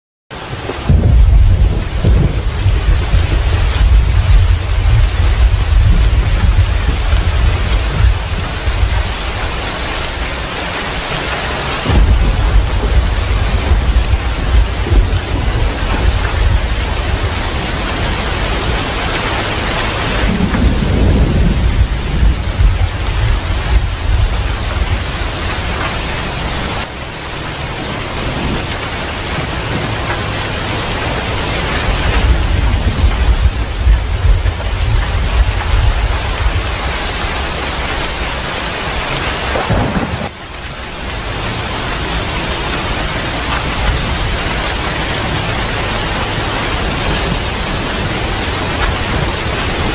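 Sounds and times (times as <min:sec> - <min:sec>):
heavy rain: 0:00.3 - 0:49.9
low rolling thunder: 0:00.6 - 0:26.9, 0:28.0 - 0:49.9.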